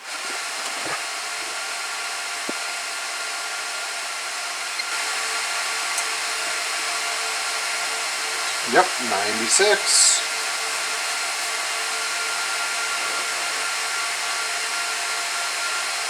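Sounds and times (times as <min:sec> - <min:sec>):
server fans whining: 0:00.0 - 0:16.0.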